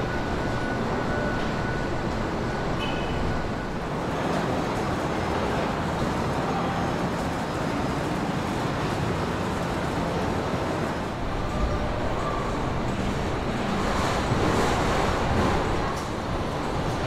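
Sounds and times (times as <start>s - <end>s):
factory machinery rumble and hiss: 0.0s - 17.0s.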